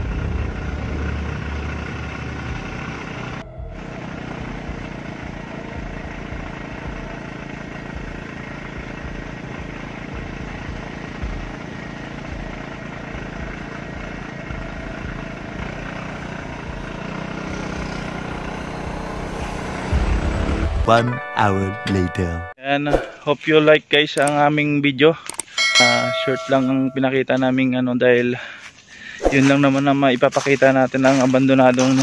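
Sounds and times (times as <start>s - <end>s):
vehicle engine running: 0.0s - 22.5s, 28.2s - 32.0s.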